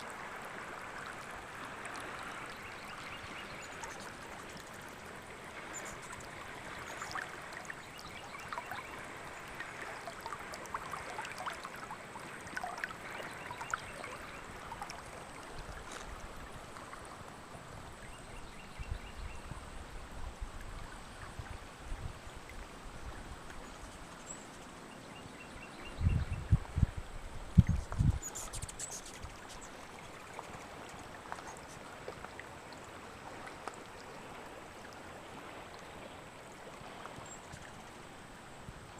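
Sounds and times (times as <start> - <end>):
river water running: 0.0 - 38.9.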